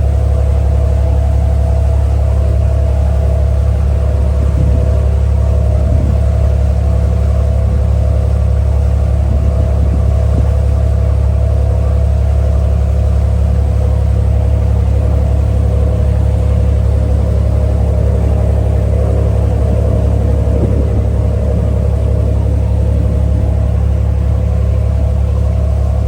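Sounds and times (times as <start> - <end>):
ferry engine droning: 0.0 - 26.0.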